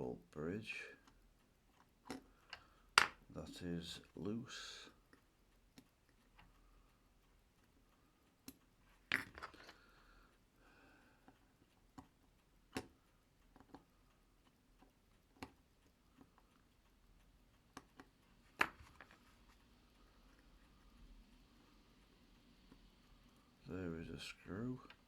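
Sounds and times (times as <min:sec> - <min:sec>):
small tools tapping watch movement: 0:01.0 - 0:25.0.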